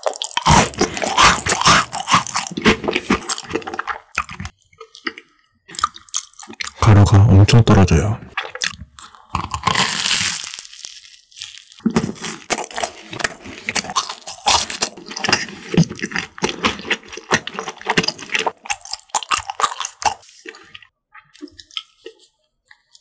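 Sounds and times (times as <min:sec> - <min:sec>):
crisp crunchy chewing: 0:00.0 - 0:06.9, 0:08.4 - 0:23.0
crunchy bite: 0:00.0 - 0:06.9, 0:08.4 - 0:22.3.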